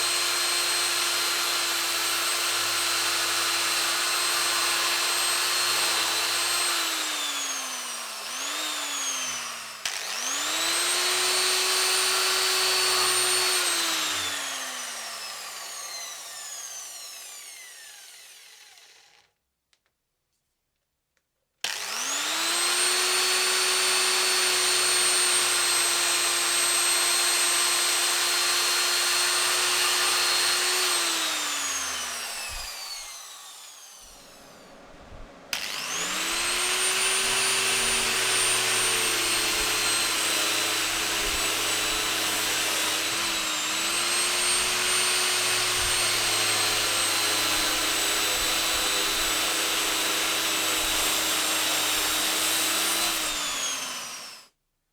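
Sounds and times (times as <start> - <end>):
angle grinder whine: 0.0 - 19.2, 21.7 - 54.5.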